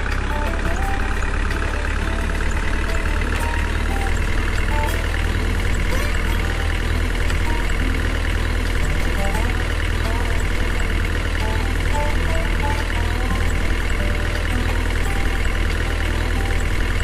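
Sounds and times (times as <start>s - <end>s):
engine drone: 0.0s - 17.0s
short high tones: 0.0s - 17.0s.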